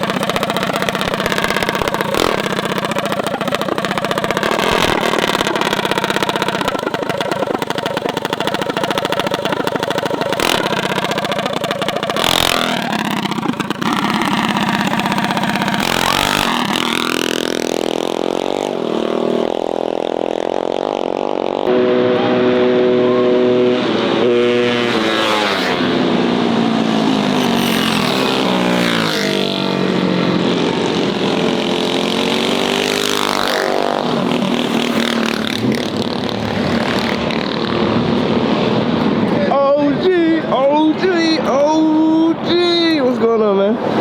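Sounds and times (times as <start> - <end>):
mini bike engines revving: 0.0 - 44.0.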